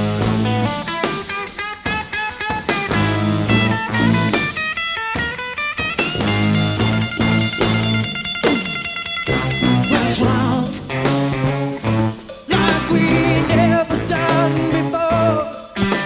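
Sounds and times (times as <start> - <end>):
bass guitar: 0.0 - 16.0
drum kit beat: 0.0 - 16.0
electric guitar: 0.0 - 16.0
keyboard chords: 0.0 - 16.0.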